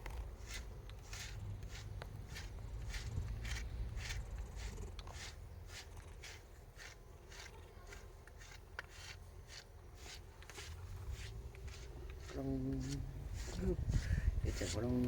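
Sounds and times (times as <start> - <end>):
brush swishing through fur: 0.0 - 15.0.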